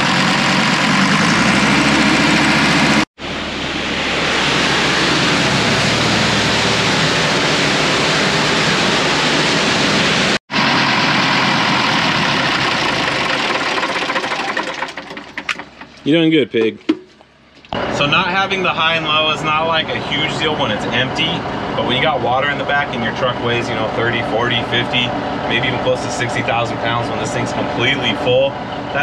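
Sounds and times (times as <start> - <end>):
pump engine running hard: 0.0 - 16.0, 17.8 - 29.0.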